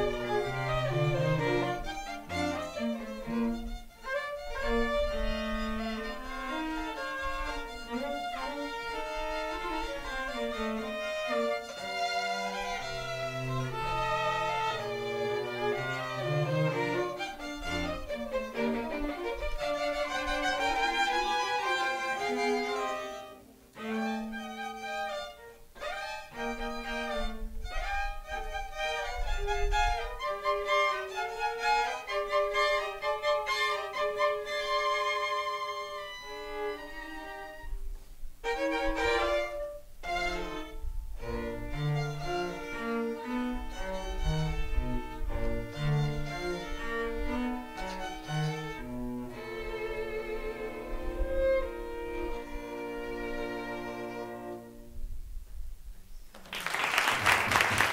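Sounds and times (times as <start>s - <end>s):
cello playing: 0.0s - 55.3s
violin playing: 0.0s - 55.4s.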